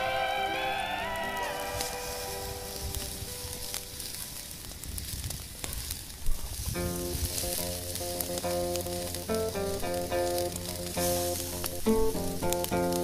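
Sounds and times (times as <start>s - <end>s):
background music: 0.0s - 4.3s, 6.8s - 13.0s
food sizzling and popping in a pan: 1.4s - 13.0s.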